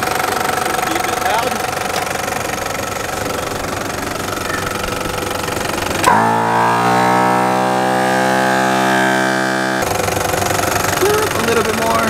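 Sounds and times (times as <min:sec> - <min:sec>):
air compressor buzzing hum: 0:00.0 - 0:12.0
car engine idling: 0:00.0 - 0:12.0.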